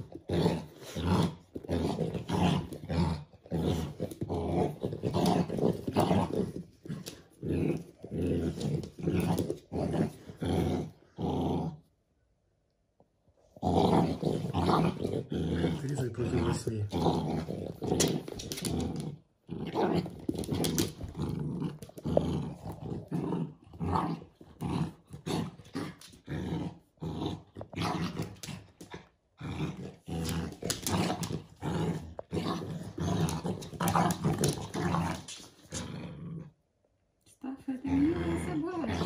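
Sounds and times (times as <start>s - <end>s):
dogs growling in play: 0.0s - 12.0s, 13.4s - 36.9s, 37.7s - 39.0s.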